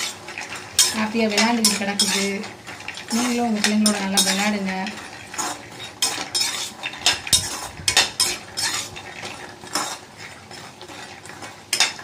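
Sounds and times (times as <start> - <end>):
metal spatula scraping a pan: 0.0 - 12.0
nuts rattling against a pan: 0.0 - 12.0.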